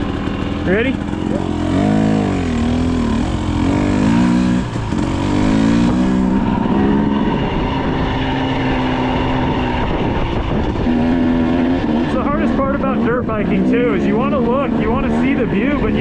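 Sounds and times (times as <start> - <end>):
two-stroke dirt bike engine revving: 0.0 - 16.0.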